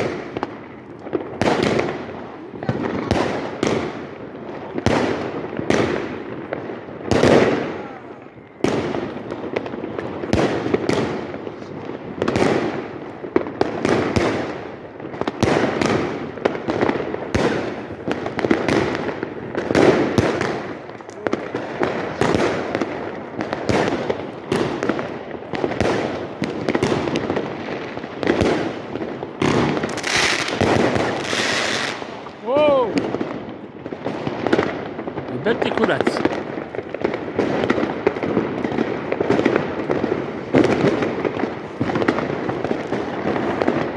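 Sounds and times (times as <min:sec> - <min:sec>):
fireworks and firecrackers bangs: 0:00.0 - 0:43.9.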